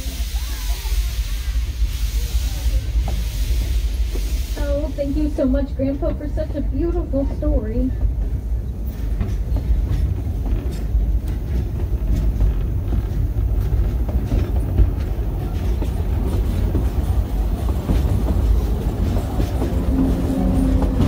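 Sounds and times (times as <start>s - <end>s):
train car rumbling on track: 0.0s - 21.0s.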